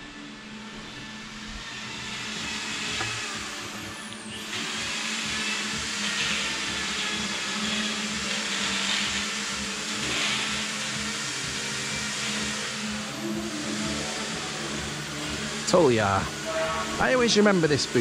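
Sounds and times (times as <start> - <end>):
machine whirring: 0.0 - 18.0.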